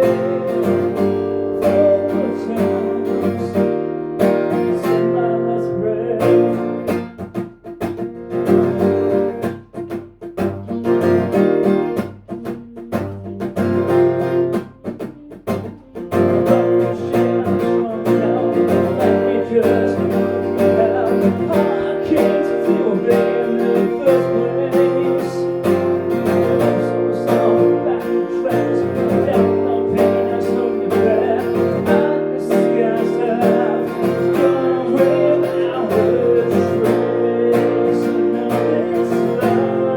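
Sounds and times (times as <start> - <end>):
acoustic guitar: 0.0 - 39.9.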